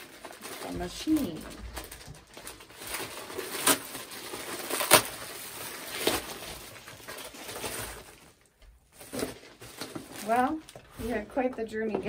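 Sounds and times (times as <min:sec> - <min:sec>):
packaging rustling: 0:00.0 - 0:11.2.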